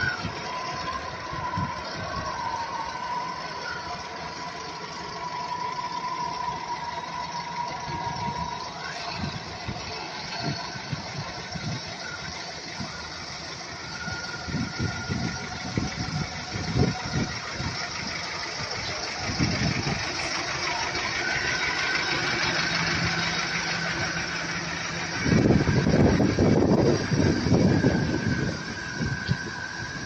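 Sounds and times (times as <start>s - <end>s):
fire truck engine running: 0.0s - 30.0s
low rumbles: 0.0s - 30.0s.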